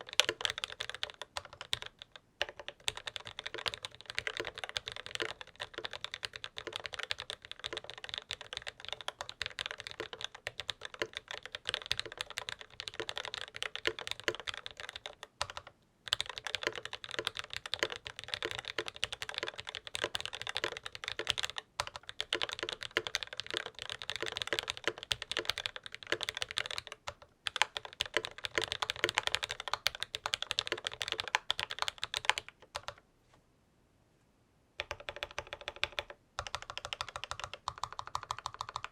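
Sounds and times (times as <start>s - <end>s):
fast mechanical keyboard typing: 0.0s - 33.0s, 34.8s - 38.9s.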